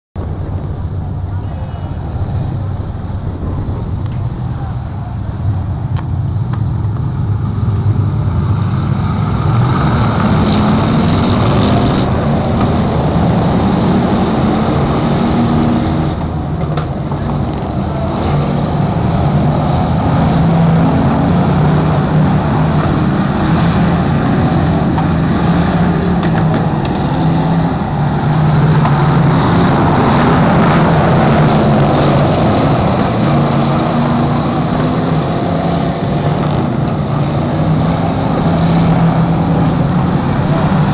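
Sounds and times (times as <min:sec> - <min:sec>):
race car engines roaring: 0:00.2 - 0:40.9.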